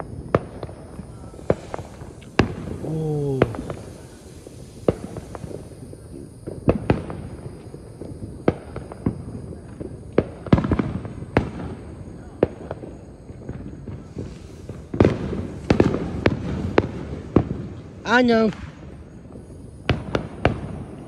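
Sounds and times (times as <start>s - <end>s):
firecracker bangs: 0.0s - 19.2s, 19.8s - 21.0s.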